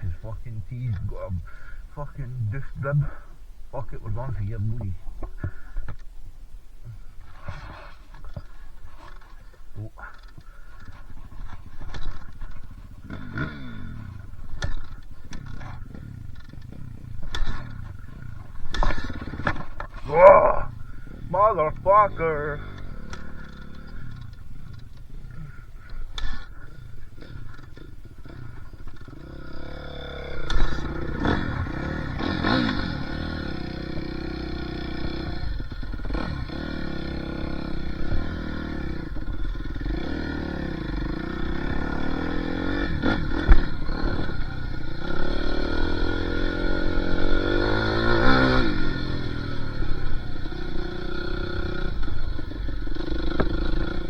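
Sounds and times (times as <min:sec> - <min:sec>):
dirt bike engine revving: 0:00.0 - 0:06.0, 0:06.9 - 0:54.0.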